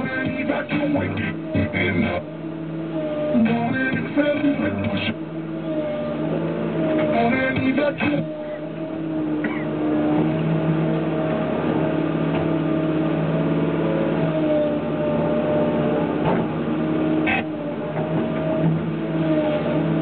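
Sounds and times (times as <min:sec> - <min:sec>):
diesel engine and hydraulics: 0:00.0 - 0:20.0.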